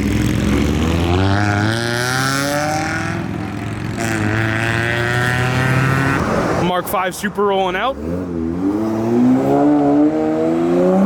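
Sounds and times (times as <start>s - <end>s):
car engine accelerating: 0.0s - 6.8s, 7.8s - 11.0s.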